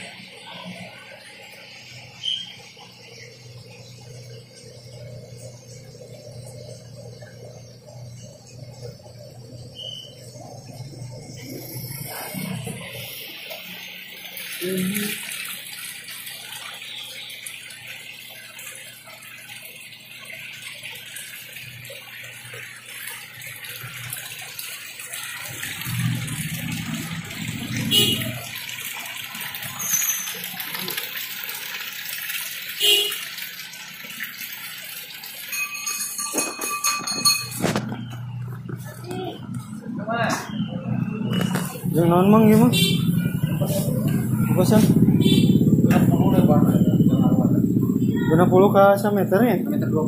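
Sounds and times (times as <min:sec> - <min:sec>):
water pouring into fish tanks: 0:00.0 - 0:50.0.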